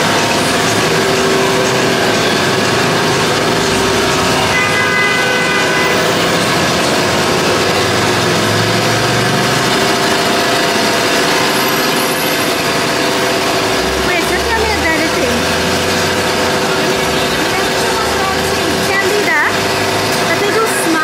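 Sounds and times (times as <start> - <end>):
vehicle engines running: 0.0 - 21.0.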